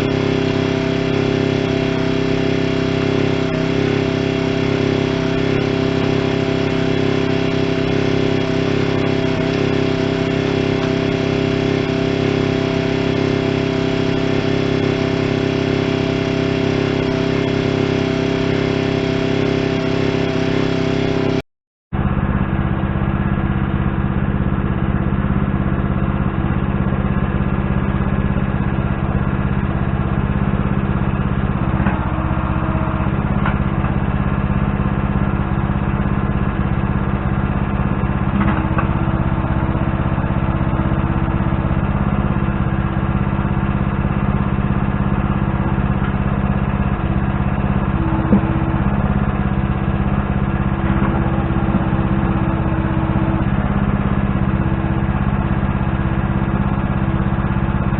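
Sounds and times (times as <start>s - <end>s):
machine engine running steadily: 0.0s - 57.9s.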